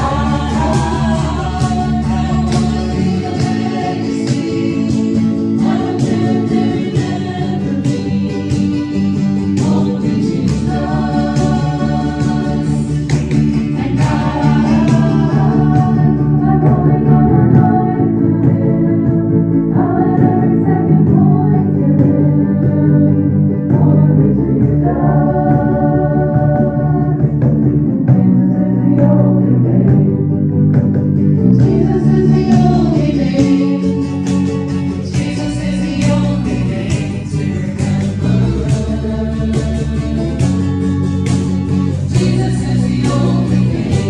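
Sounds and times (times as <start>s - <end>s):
keyboard: 0.0s - 44.0s
strummed guitars: 0.0s - 44.0s
voices singing: 0.0s - 44.0s.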